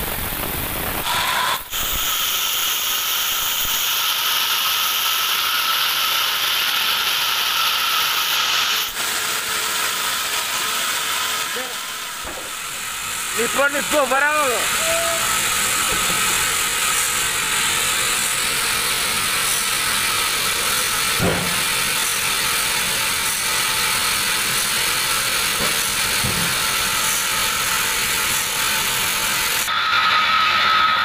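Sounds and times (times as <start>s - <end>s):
band sawmill sawing log: 0.0s - 31.0s.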